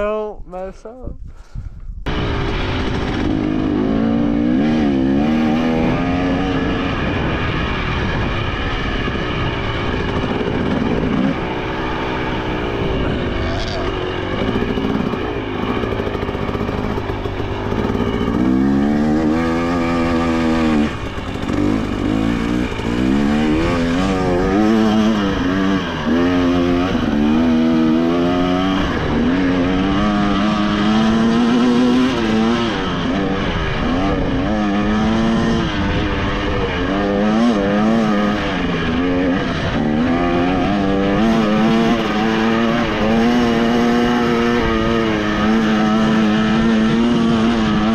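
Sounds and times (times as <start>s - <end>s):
dirt bike engine revving: 2.1s - 47.9s.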